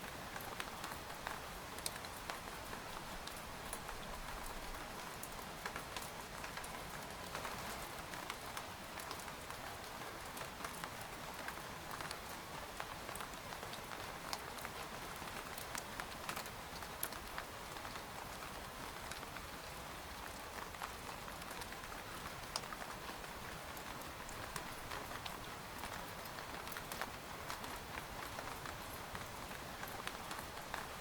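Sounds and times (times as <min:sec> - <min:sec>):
rain pattering on tent fabric: 0:00.0 - 0:31.0.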